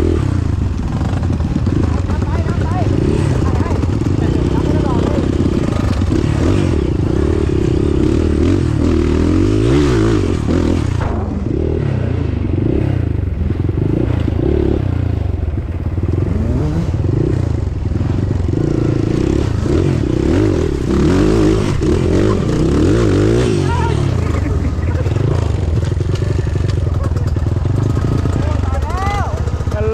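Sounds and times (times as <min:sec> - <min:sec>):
off-road motorcycle engine revving: 0:00.0 - 0:29.9.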